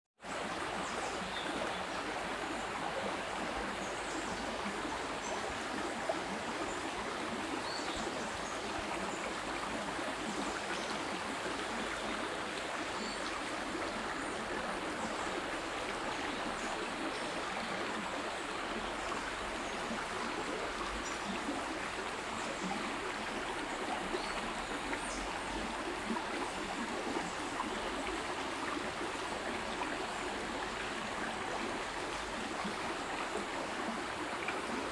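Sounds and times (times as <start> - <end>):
stream water rushing: 0.2 - 34.9.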